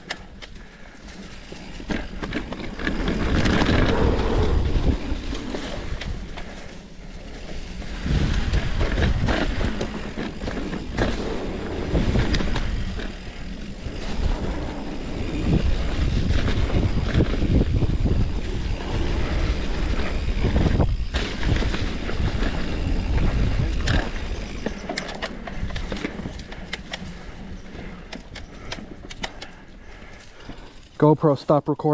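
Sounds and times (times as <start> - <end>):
bike rattling and knocking: 0.0 - 30.8
tyres rolling over dirt and leaves: 0.2 - 31.9
wind rumble on microphone: 1.4 - 30.6.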